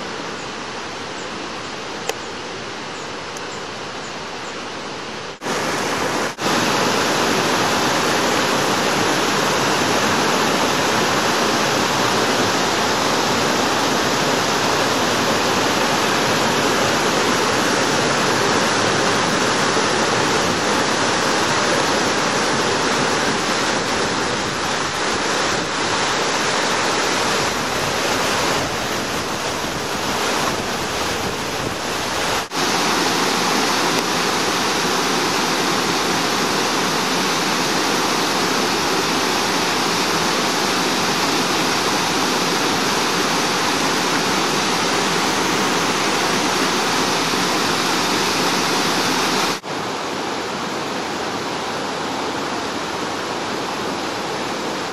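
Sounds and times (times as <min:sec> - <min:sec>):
stream rushing over rocks: 0:00.0 - 0:54.9.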